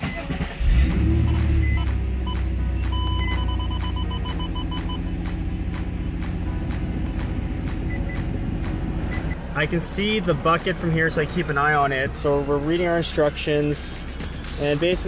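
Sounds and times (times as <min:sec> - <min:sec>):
car engine starting and idling: 0:00.0 - 0:15.0.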